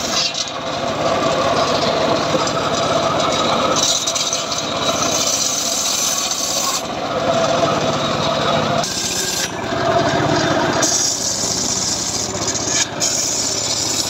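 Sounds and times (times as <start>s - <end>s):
saw cutting wood rasping: 0.0s - 14.0s.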